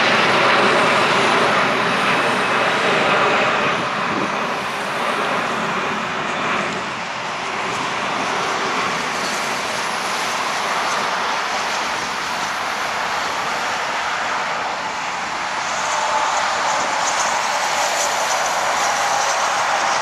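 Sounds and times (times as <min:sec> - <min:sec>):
jet airliner climbing overhead: 0:00.0 - 0:20.0.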